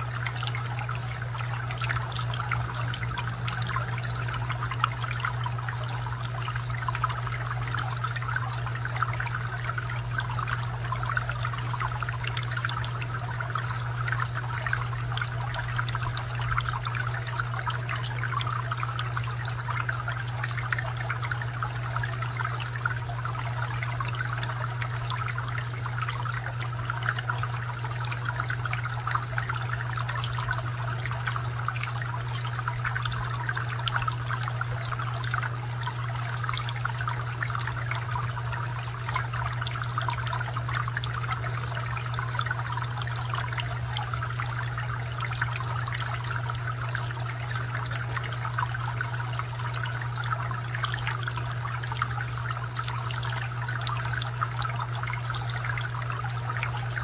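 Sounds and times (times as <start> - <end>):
fountain water trickling and splashing: 0.0 - 57.0.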